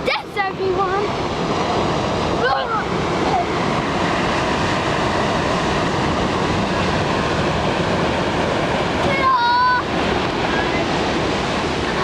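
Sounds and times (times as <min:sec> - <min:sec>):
ocean surf: 0:00.0 - 0:12.0
wind rushing over microphone: 0:00.0 - 0:12.0.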